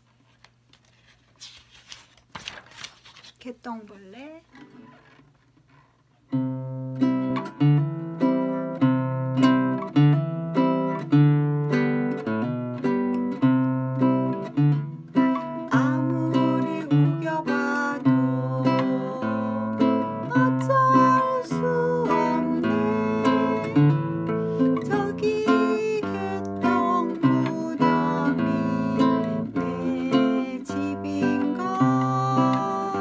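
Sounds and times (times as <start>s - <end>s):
fingerpicked classical guitar: 4.5s - 33.0s.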